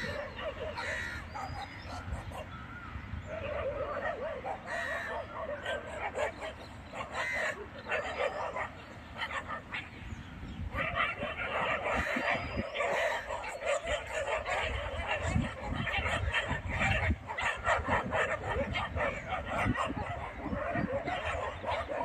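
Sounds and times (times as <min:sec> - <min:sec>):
dogs barking and yelping: 0:00.0 - 0:22.0.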